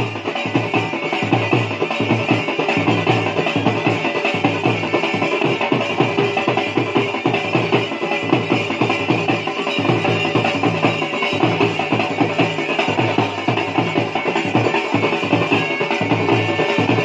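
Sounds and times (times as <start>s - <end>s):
fast dhol drumming: 0.0s - 17.0s.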